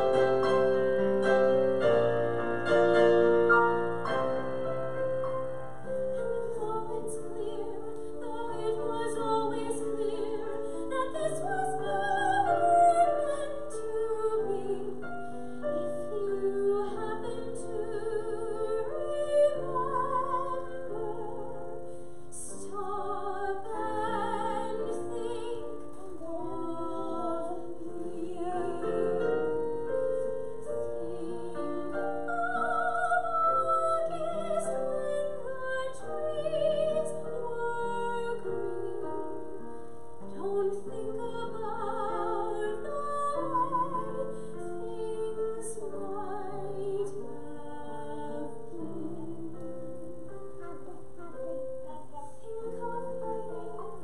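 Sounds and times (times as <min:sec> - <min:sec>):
piano chords: 0:00.0 - 0:54.0
woman singing operatic style: 0:05.9 - 0:54.0.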